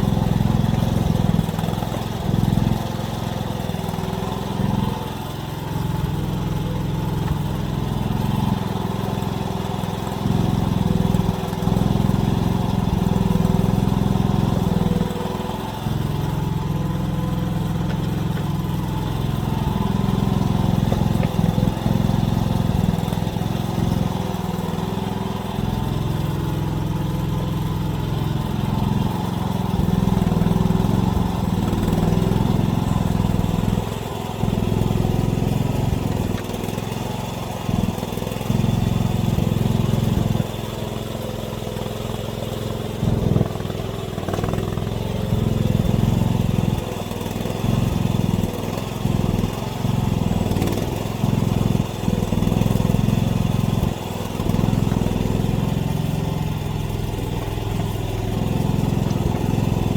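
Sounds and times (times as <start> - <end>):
mini excavator engine running: 0.0 - 59.9.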